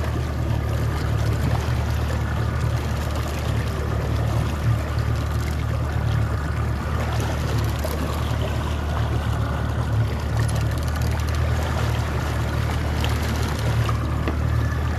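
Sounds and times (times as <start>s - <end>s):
boat motor droning: 0.0s - 14.9s
water rushing past hull: 0.0s - 14.9s.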